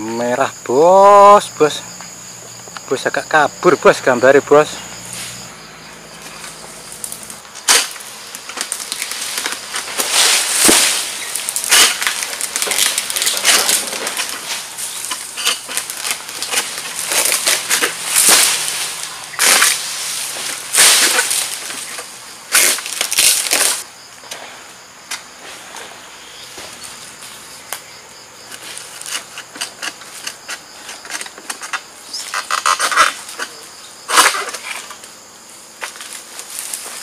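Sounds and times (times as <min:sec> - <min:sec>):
dry fronds rustling and crackling: 0:04.1 - 0:37.0.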